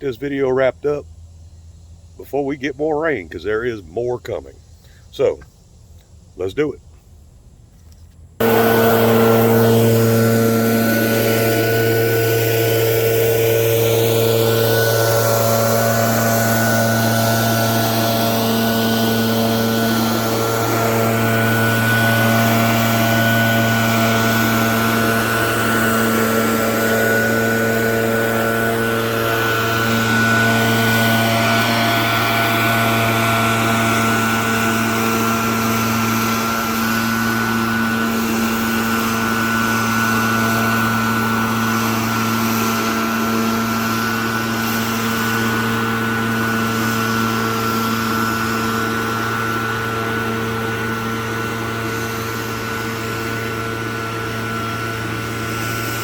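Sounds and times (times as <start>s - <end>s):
leaf blower running: 8.4s - 56.0s.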